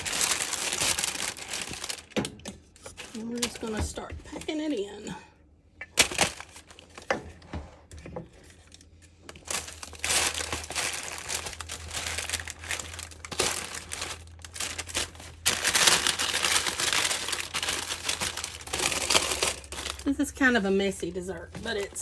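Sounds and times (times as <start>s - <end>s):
wax paper crinkling: 0.0s - 5.1s, 6.0s - 7.1s, 8.3s - 22.0s.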